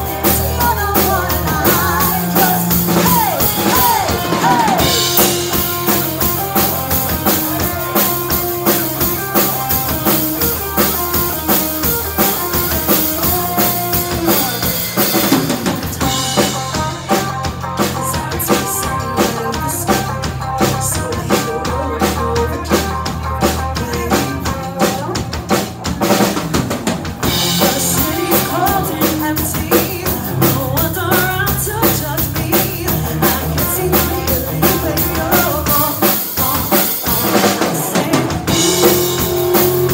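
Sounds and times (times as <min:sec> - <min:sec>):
drum kit: 0:00.0 - 0:39.9
live band playing: 0:00.0 - 0:39.9.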